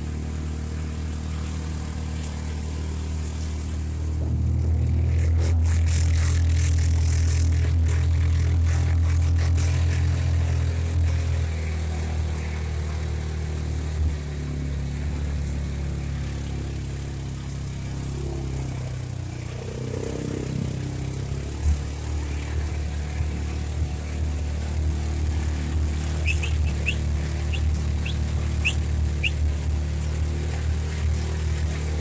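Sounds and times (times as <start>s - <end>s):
utility vehicle engine running: 0.0s - 32.0s.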